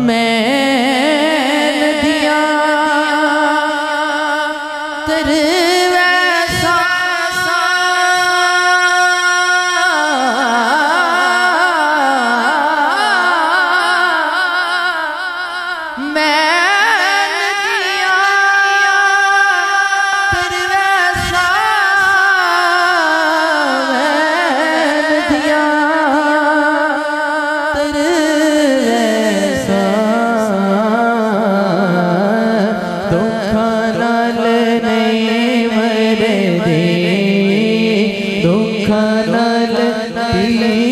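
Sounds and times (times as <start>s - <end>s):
man singing into a microphone: 0.0s - 40.9s.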